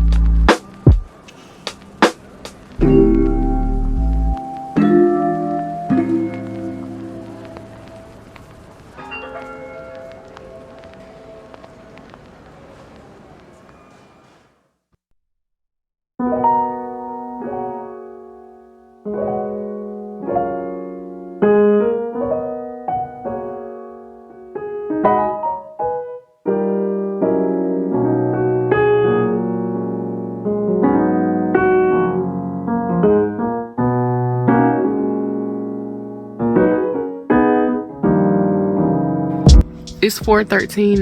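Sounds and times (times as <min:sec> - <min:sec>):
slow piano music: 0:01.8 - 0:12.2, 0:16.2 - 0:41.0.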